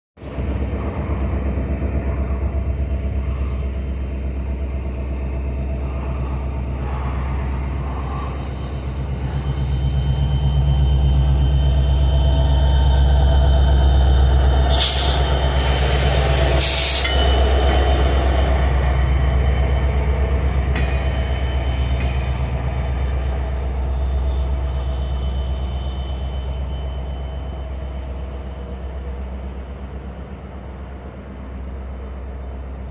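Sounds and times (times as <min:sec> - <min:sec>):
locomotive diesel engine humming: 0:00.2 - 0:32.9.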